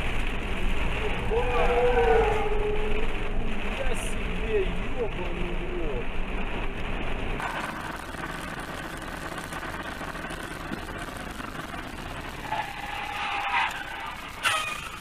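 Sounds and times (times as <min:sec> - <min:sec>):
hissy road noise: 0:00.0 - 0:15.0
vehicle engine and road noise: 0:00.0 - 0:15.0.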